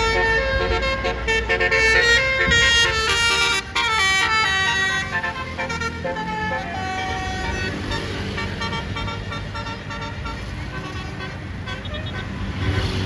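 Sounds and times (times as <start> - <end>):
bus engine rumble: 0.0 - 13.0
bus horn playing a melody: 0.0 - 13.0
passing traffic: 0.0 - 13.0.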